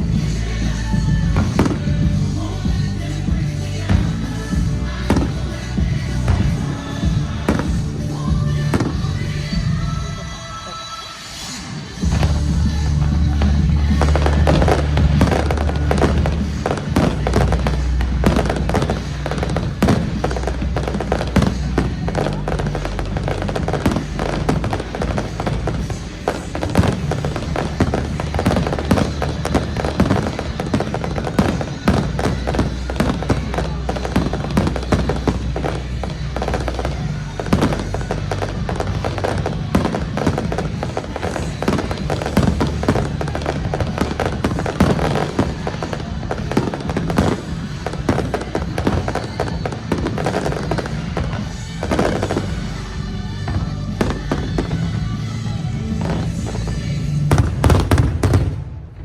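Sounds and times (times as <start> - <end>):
fireworks bursting: 0.0 - 59.0
loud music with bass: 0.0 - 59.0.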